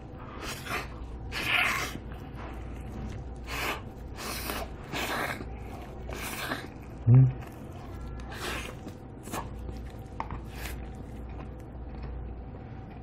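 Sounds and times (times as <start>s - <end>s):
man gnawing meat off bone: 0.4s - 12.1s.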